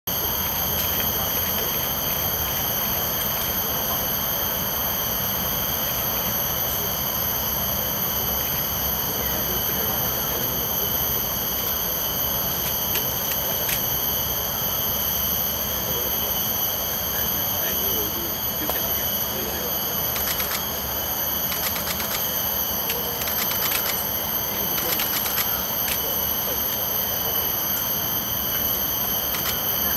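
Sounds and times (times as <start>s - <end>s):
insects droning high-pitched: 0.1s - 29.9s.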